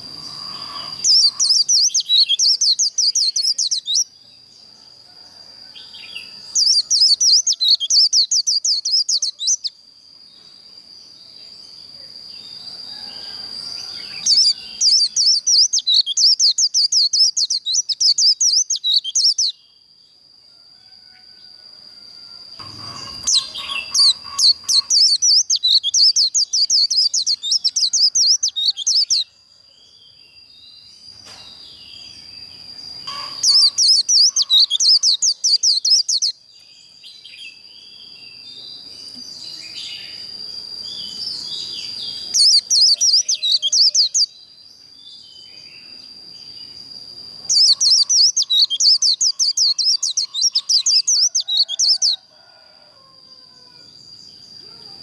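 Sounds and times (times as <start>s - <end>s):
birds twittering song: 0.0s - 19.9s, 22.6s - 52.8s
quiet bird chirps: 0.0s - 19.9s, 22.6s - 52.2s.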